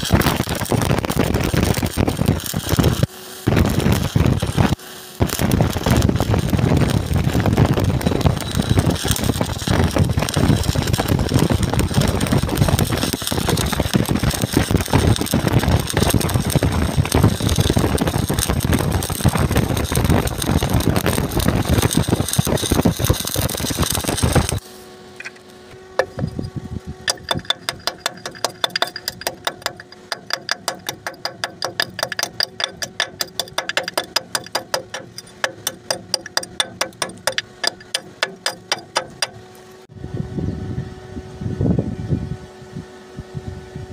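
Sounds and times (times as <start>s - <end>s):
tool chipping metal: 0.0s - 24.6s, 25.2s - 39.7s
welding arc crackling: 0.0s - 39.9s.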